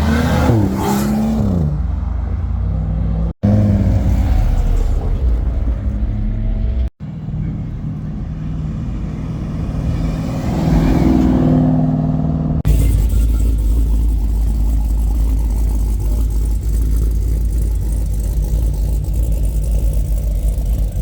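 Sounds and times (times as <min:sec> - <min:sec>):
car engine revving: 0:00.0 - 0:21.0
deep engine rumble: 0:00.0 - 0:21.0.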